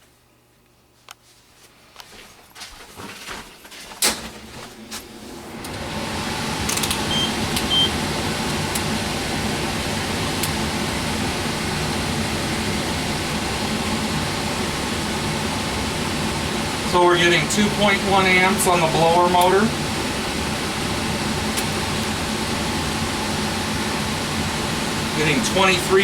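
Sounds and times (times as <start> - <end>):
blower motor spinning up: 4.4 - 26.0.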